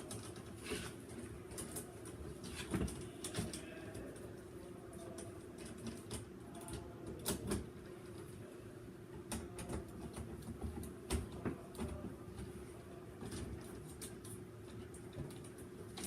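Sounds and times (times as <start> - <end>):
wires and tape handled: 0.0 - 8.4, 9.1 - 16.0.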